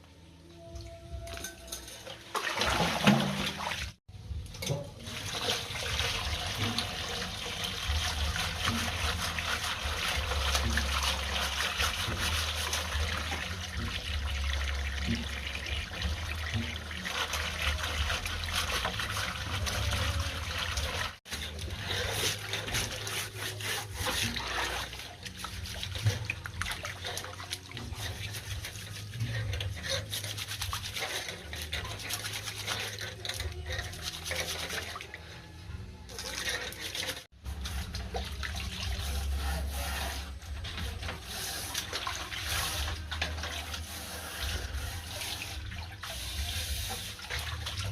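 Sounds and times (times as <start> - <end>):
running water splashing: 1.7 - 4.0, 5.0 - 35.3, 36.1 - 47.9
brush scrubbing: 5.1 - 35.4, 36.1 - 47.9.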